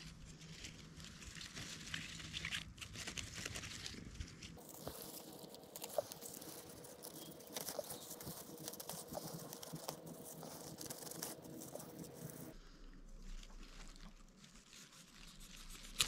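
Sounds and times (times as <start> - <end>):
lettuce leaves rustling and snapping: 0.0 - 12.6, 13.2 - 16.0.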